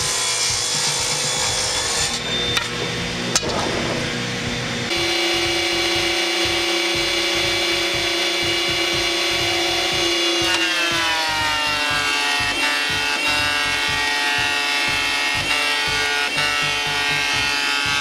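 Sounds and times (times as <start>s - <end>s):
table saw running: 0.0s - 18.0s
thickness planer humming: 0.0s - 18.0s.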